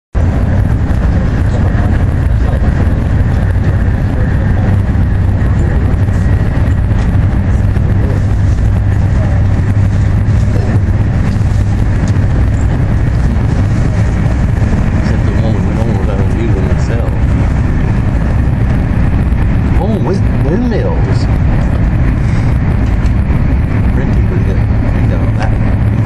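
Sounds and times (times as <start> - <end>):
faint high whine: 0.2 - 26.0
train cabin rumble: 0.2 - 26.0.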